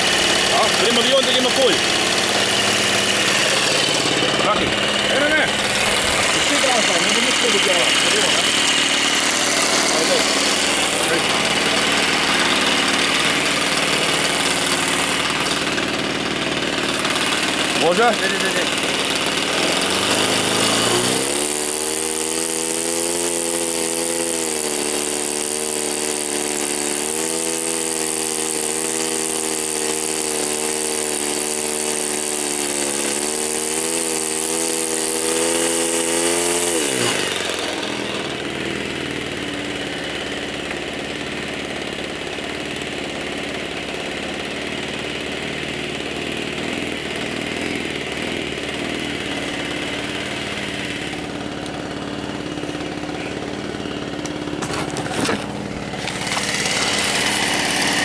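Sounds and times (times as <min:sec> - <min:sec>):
model glow engine running: 0:00.0 - 0:58.0.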